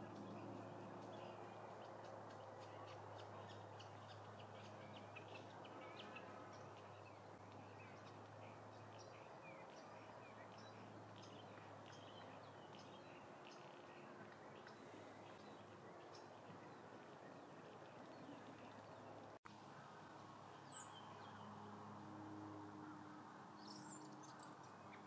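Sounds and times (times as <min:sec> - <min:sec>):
songbirds chirping: 0:00.0 - 0:21.9, 0:22.8 - 0:25.0.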